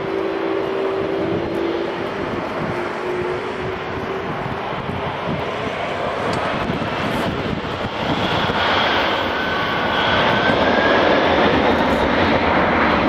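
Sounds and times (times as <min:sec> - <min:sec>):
high engine whine: 0:00.0 - 0:13.0
jet engines running up: 0:00.0 - 0:13.0.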